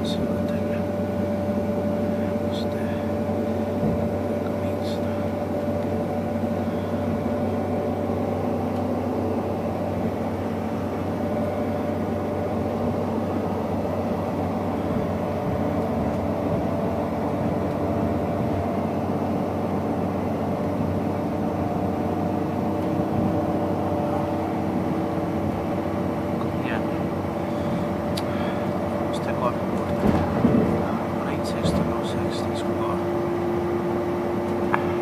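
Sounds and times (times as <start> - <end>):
diesel railbus engine drone: 0.0 - 35.0.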